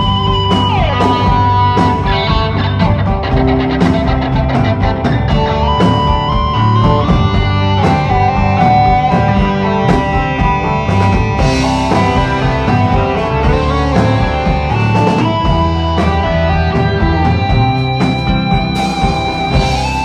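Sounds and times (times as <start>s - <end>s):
bass guitar: 0.0s - 20.0s
drum kit: 0.0s - 20.0s
electric guitars: 0.0s - 20.0s.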